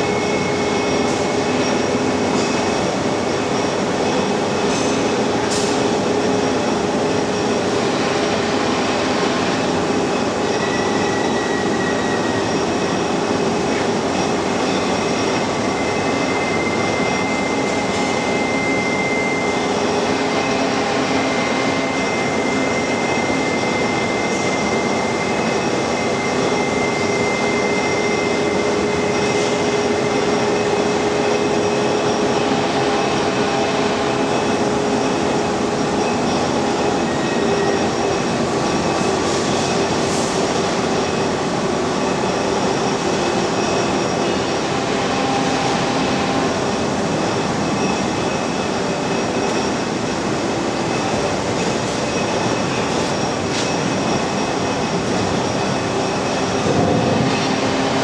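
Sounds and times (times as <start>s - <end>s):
machinery hum: 0.0s - 58.0s.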